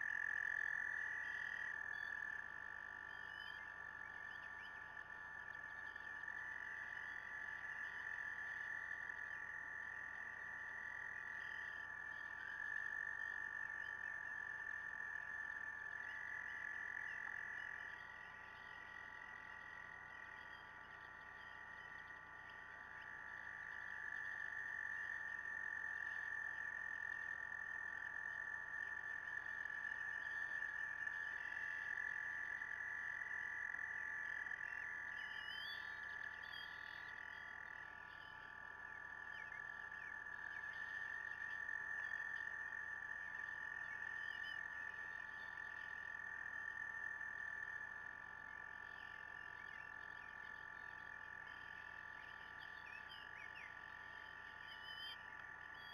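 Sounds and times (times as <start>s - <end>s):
frogs trilling: 0.0s - 55.9s.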